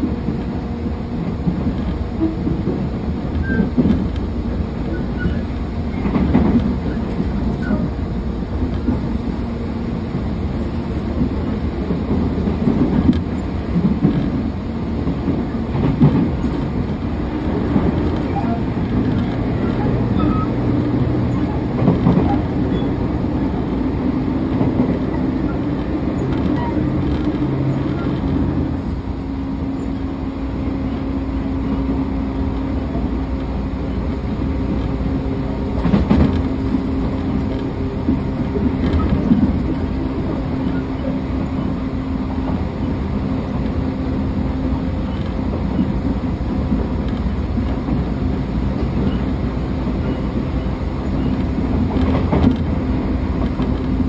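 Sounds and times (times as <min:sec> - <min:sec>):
train motor hum: 0:00.0 - 0:54.0
wheel and rail noise: 0:00.0 - 0:54.0.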